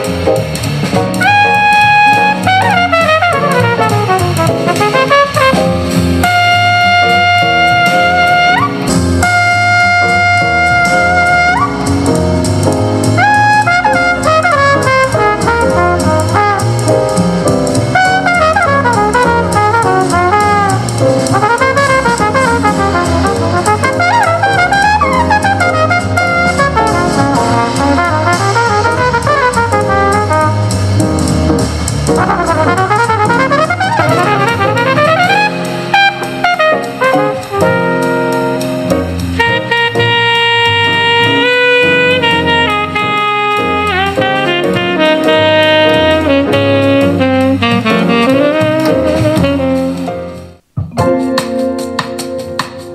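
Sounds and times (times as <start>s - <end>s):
drum kit: 0.0s - 52.9s
jazz through a small speaker: 0.0s - 52.9s
trumpet: 1.0s - 50.6s.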